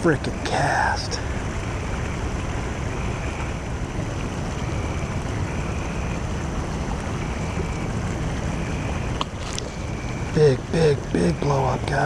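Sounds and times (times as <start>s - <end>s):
frogs chirping: 0.0s - 12.0s
low rumbling noise: 0.0s - 12.0s.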